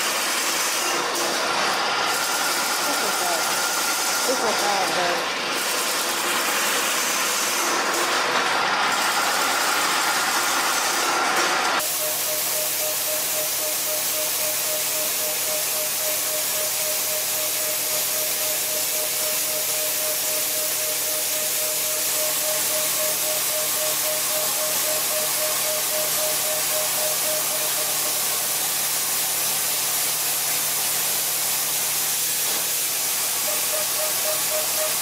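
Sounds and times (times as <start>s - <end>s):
end mill cutting metal: 0.0s - 35.0s.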